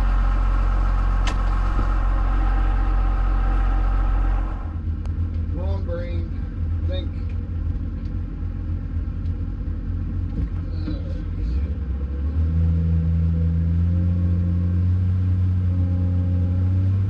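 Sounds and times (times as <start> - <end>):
wheel loader diesel engine running: 0.0 - 17.0.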